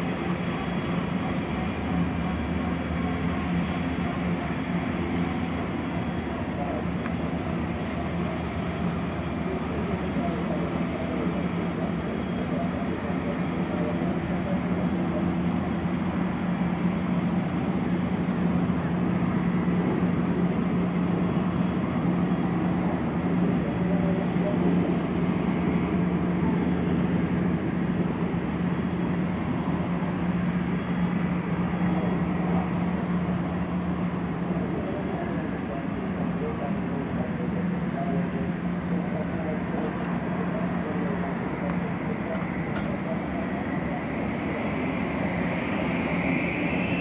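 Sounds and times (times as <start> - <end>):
helicopter rotors drone: 0.0 - 47.0.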